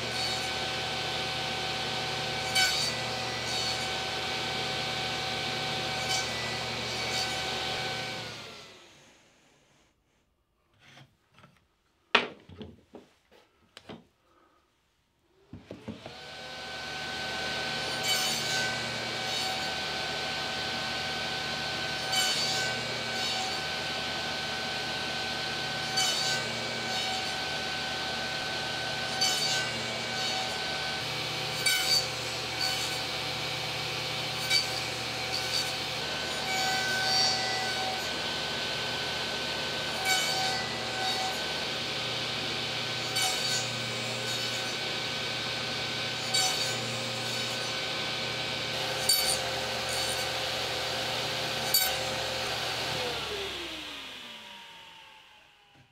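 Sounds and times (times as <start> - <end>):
table saw cutting plywood: 0.0 - 9.3, 15.4 - 55.9.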